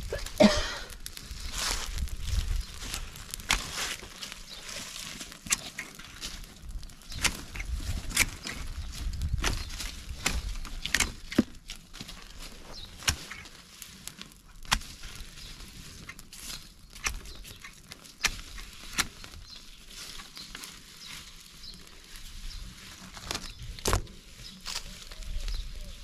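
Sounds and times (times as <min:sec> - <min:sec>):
fire crackling and snapping: 0:00.0 - 0:26.0.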